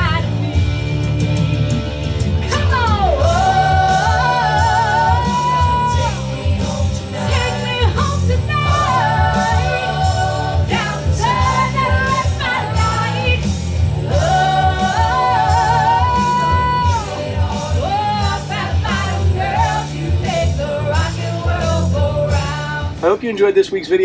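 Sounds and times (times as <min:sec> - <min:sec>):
band with pulsing bass: 0:00.0 - 0:24.0.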